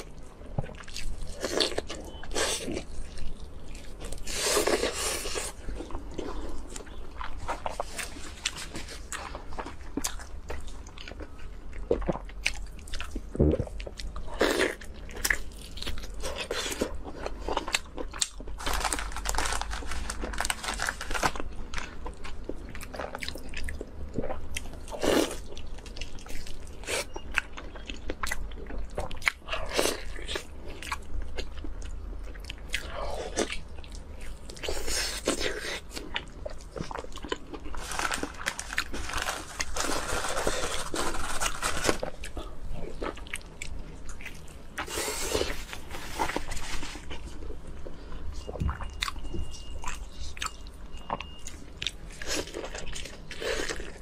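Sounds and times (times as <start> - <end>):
woman chewing crispy food: 0.0 - 54.0.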